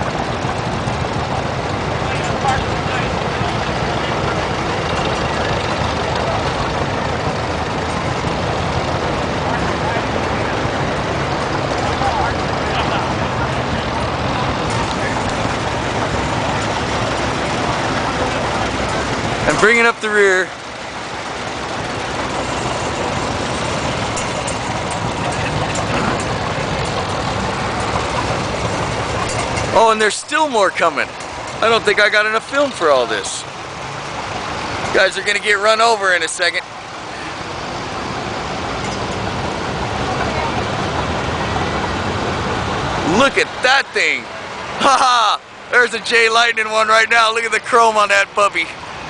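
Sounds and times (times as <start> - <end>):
tractors driving past: 0.0 - 49.0.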